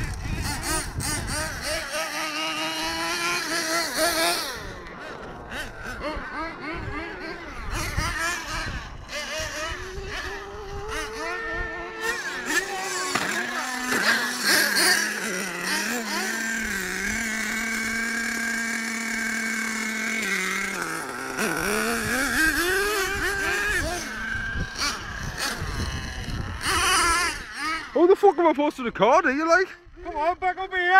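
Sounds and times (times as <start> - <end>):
small nitro engines revving: 0.0 - 30.9.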